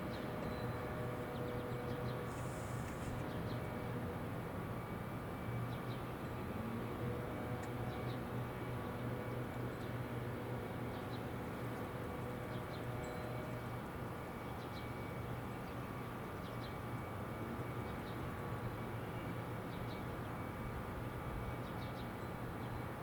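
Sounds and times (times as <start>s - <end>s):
low outdoor hum: 0.0s - 23.0s.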